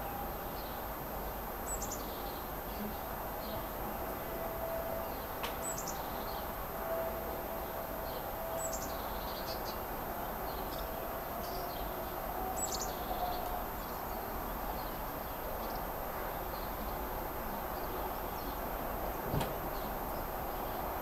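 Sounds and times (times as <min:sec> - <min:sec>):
outdoor background hiss: 0:00.0 - 0:21.0
songbirds chirping: 0:01.6 - 0:21.0.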